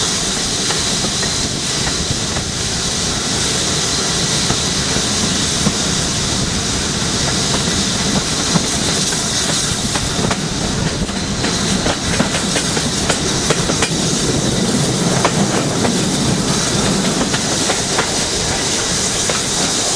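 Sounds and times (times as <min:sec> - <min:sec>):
train rumble: 0:00.0 - 0:19.9
train wheels clicking over rail joints: 0:00.0 - 0:19.9.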